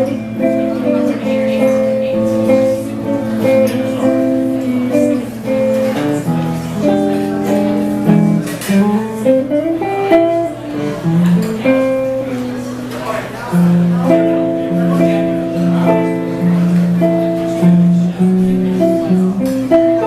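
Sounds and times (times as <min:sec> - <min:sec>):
plucked and strummed guitar: 0:00.0 - 0:20.0.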